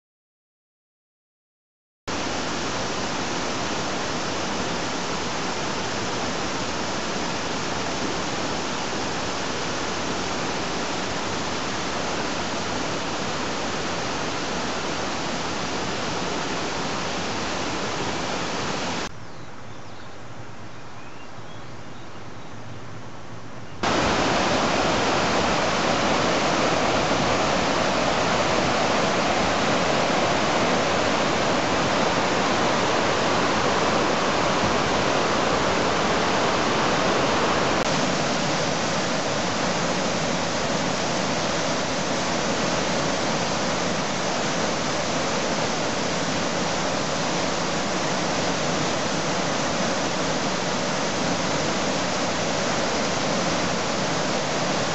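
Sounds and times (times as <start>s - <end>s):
stream cascading over boulders: 2.1s - 19.1s, 23.8s - 54.9s
waterfall pouring through rock: 2.1s - 19.1s, 23.8s - 54.9s.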